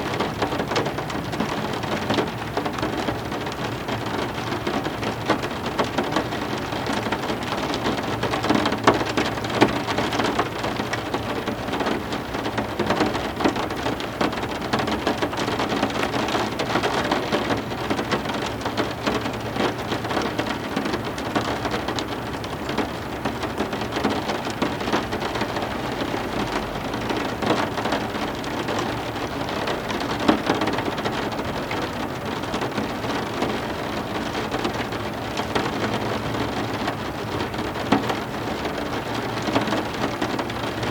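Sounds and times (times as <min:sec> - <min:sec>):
heavy rain: 0:00.0 - 0:40.9
raindrops ticking close by: 0:00.0 - 0:40.9.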